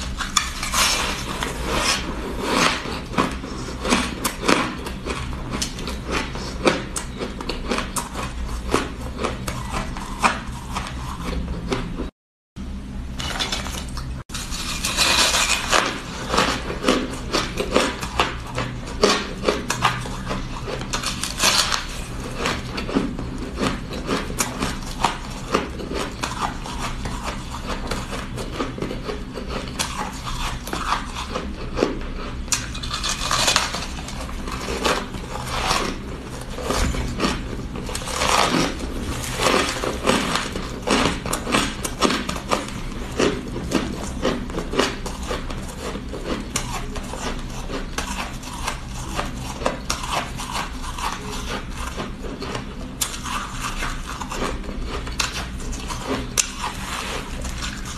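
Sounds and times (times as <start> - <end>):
ice being chewed: 0.0 - 12.1, 13.2 - 57.9.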